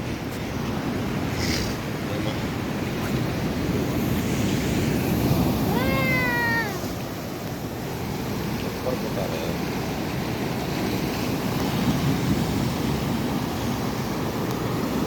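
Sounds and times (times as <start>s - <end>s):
sea surf: 0.0s - 15.0s.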